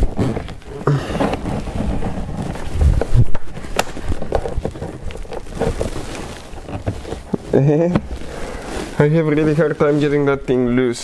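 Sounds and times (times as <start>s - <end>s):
plastic panel creaking and scraping: 0.0s - 11.0s.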